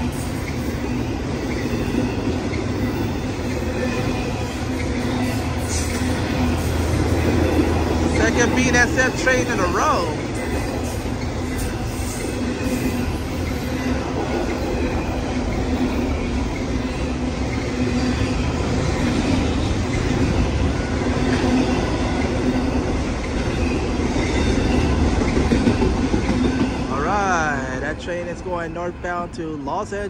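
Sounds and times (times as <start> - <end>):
freight cars rolling on rails: 0.0 - 30.0.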